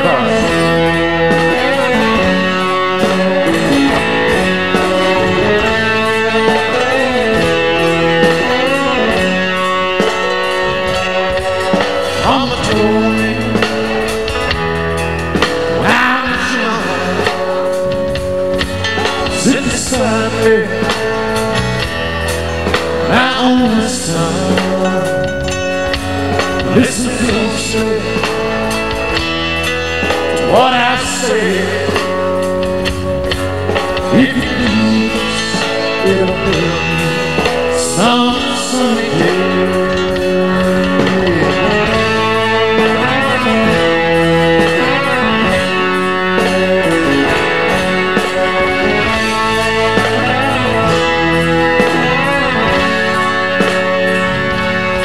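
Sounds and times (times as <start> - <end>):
man singing: 0.0 - 14.8, 15.4 - 22.1, 22.7 - 29.2, 30.0 - 55.0
country-rock band playing: 0.0 - 55.0.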